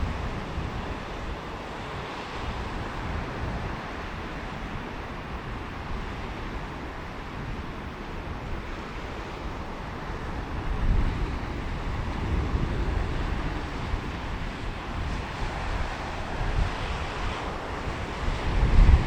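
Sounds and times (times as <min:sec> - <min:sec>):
surf washing onto beach: 0:00.0 - 0:19.0
wind on microphone: 0:00.0 - 0:19.0.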